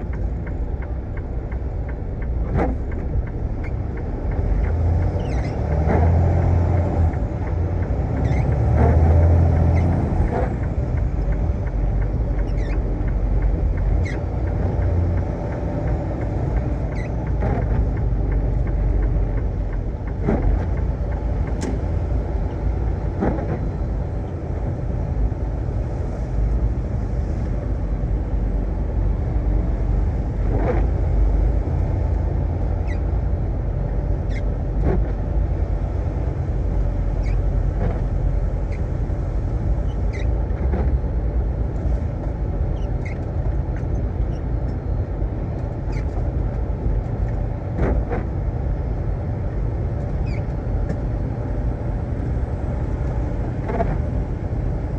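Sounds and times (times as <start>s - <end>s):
truck engine and road noise: 0.0s - 54.9s.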